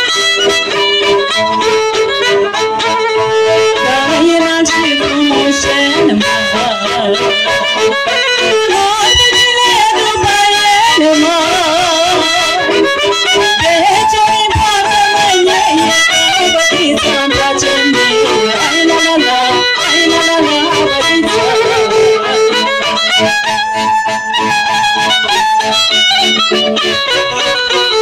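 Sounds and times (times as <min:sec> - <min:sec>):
folk violin melody: 0:00.0 - 0:28.0
steady rhythmic beat: 0:00.0 - 0:28.0.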